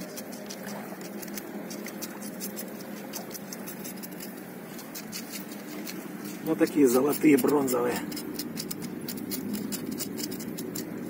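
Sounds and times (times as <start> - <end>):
fish frying in crackling oil: 0.0 - 11.0.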